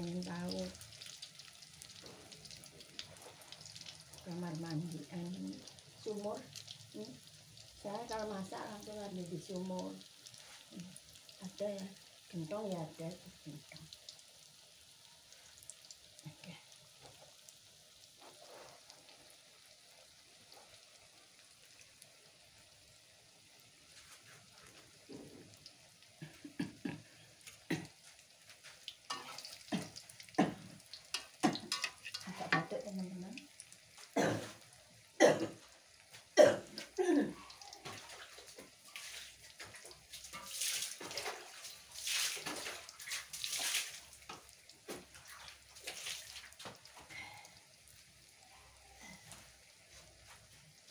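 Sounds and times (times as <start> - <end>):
faint sizzle of frying: 0.0 - 50.9.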